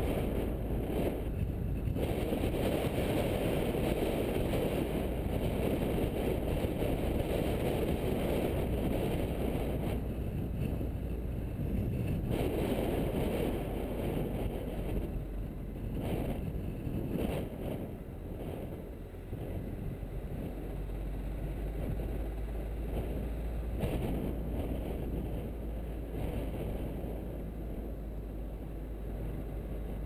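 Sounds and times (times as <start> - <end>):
tyre and road noise: 0.0 - 30.0
wind buffeting microphone: 0.0 - 30.0.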